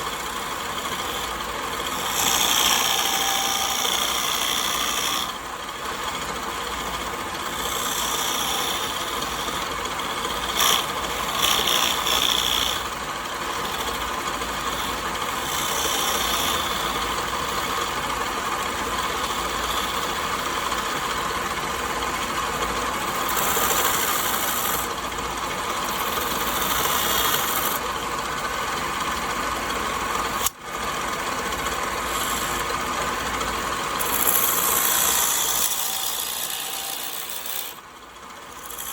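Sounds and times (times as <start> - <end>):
power tool working wood: 0.0 - 21.2, 22.6 - 25.0, 25.6 - 27.9, 31.1 - 37.9, 38.5 - 38.9.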